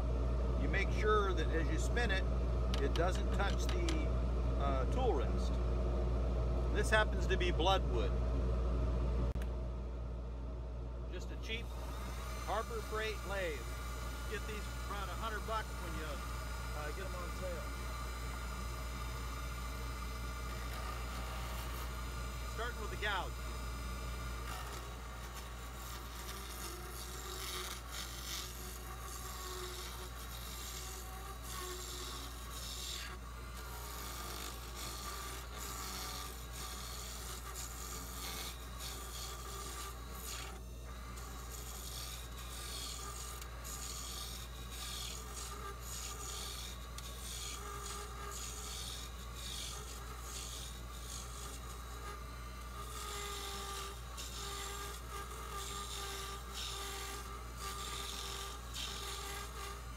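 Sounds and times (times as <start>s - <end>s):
low machine hum: 0.0s - 59.9s
gouge scraping spinning wood: 0.6s - 4.0s, 11.2s - 59.9s.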